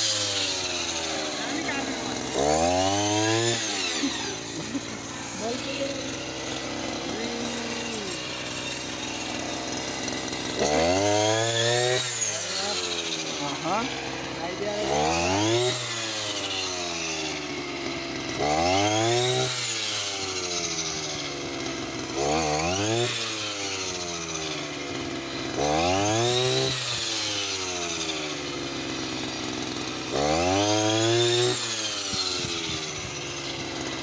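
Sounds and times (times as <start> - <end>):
brush cutter engine revving: 0.0 - 34.0.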